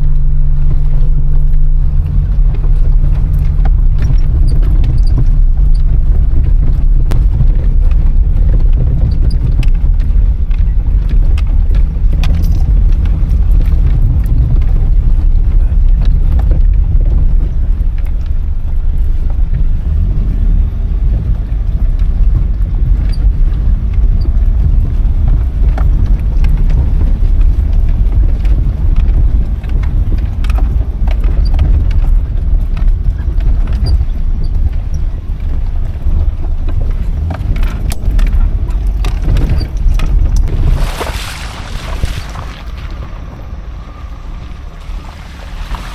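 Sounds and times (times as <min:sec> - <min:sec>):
car knocking and rattling: 0:00.0 - 0:45.9
engine and tyres rumbling: 0:00.0 - 0:45.9.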